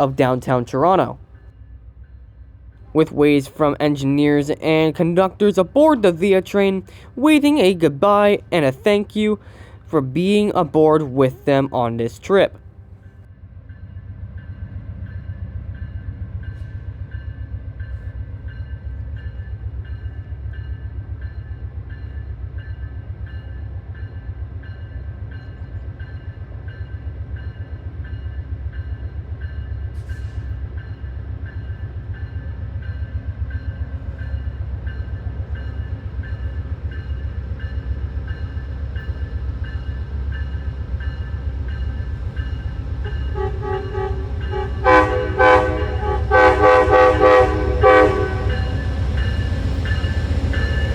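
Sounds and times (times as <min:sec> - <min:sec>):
diesel train rumbling: 0:00.0 - 0:50.9.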